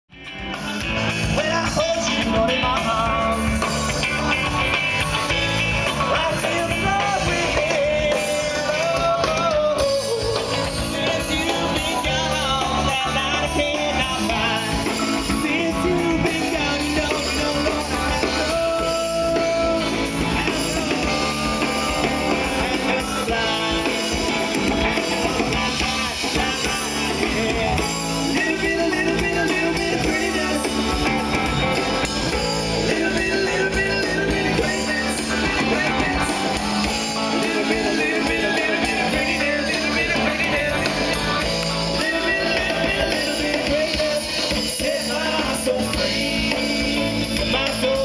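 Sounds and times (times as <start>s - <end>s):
rock music with singing: 0.1s - 48.0s.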